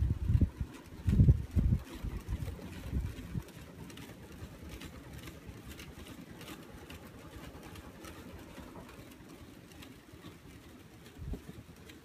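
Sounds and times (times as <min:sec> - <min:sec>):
ceiling fan whoosh: 0:00.0 - 0:12.0.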